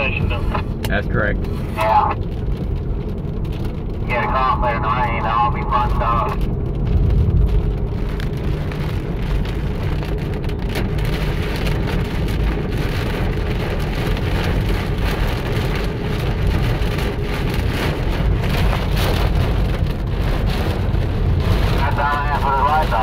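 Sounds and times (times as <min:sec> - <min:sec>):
low rumble of car on road: 0:00.0 - 0:23.0
rain drumming on car roof: 0:00.0 - 0:23.0.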